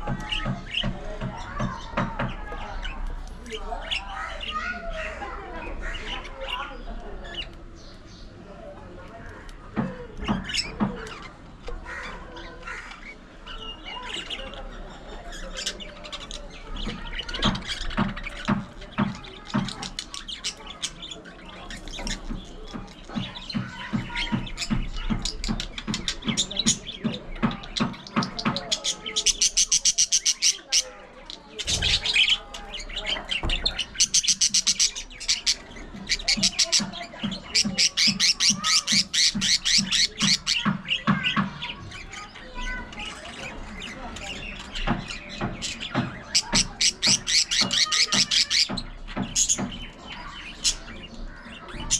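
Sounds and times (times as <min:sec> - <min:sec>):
budgerigars chattering and squawking: 0:00.0 - 0:08.4, 0:09.1 - 0:51.9.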